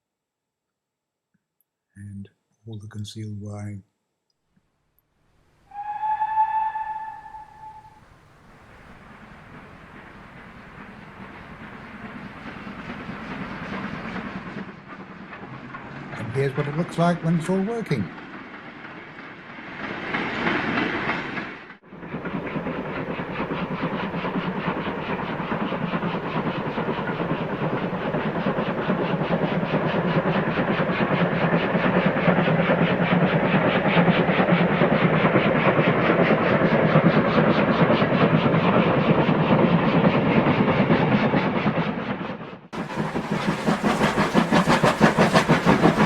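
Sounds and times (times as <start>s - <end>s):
wheels rattling on rail: 5.7s - 46.0s.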